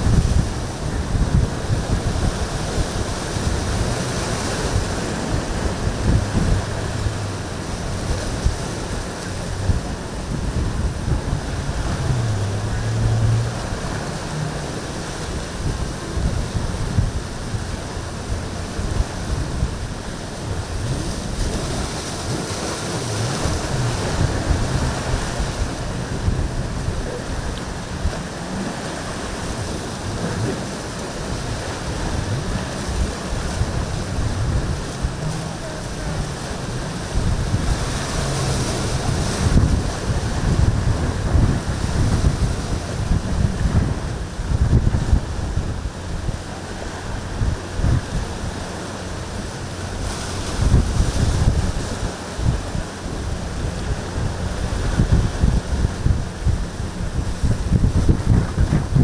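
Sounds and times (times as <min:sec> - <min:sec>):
choppy sea breaking: 0:00.0 - 0:59.0
faint outboard motor: 0:00.0 - 0:59.0
wind buffeting the microphone: 0:00.0 - 0:59.0.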